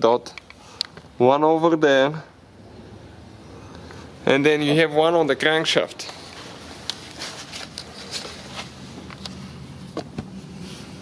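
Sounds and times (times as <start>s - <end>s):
low mechanical hum: 2.0s - 11.0s.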